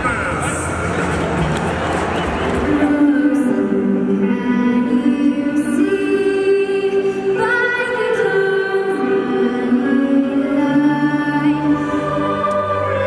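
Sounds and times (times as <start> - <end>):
anthem sung slowly: 2.1 - 13.0.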